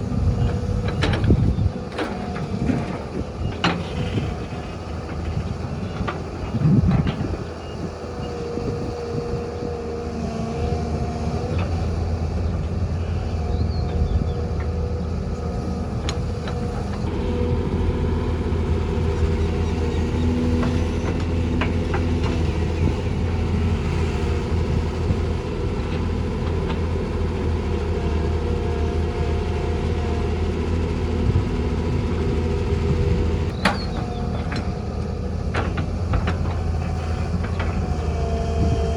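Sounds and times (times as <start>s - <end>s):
diesel machinery engine hum: 0.0s - 38.9s.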